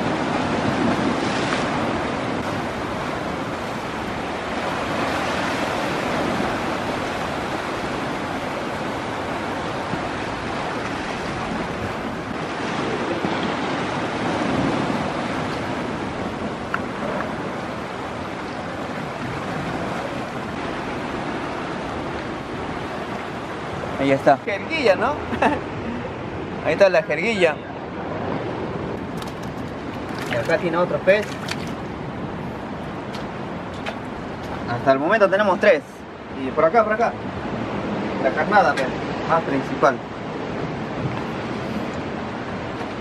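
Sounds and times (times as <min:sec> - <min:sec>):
surf washing against rocks: 0:00.0 - 0:43.0.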